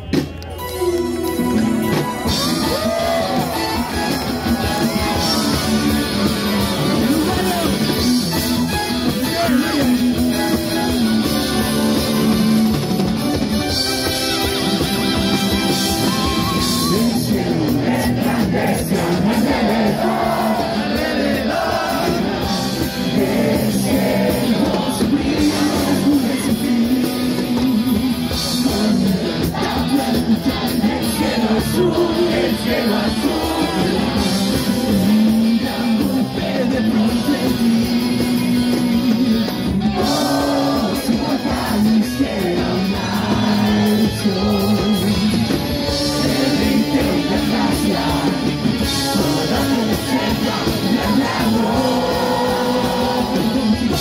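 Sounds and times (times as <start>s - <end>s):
live rock band playing: 0.0s - 54.0s
male lead singer: 1.8s - 54.0s.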